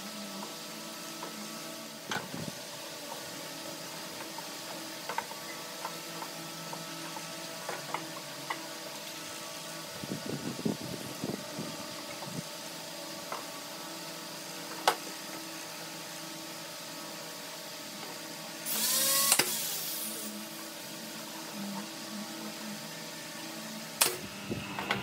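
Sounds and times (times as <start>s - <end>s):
workshop hum: 0.0s - 25.0s.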